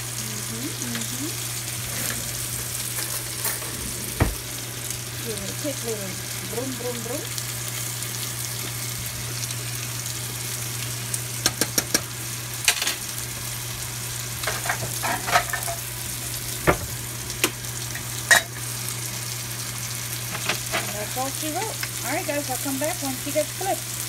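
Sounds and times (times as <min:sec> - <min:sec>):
food sizzling on stovetop: 0:00.0 - 0:24.0.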